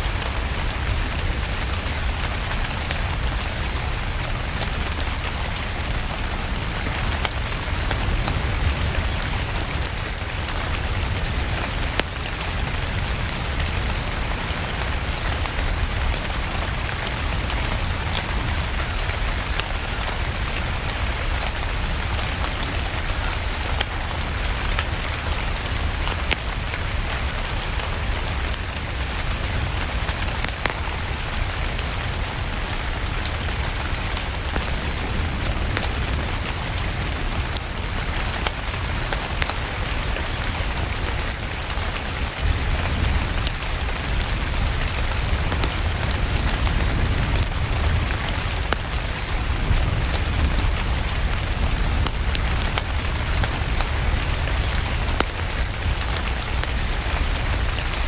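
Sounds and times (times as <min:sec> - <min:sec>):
steady rain: 0:00.0 - 0:58.0
wood fire crackling: 0:00.0 - 0:58.0.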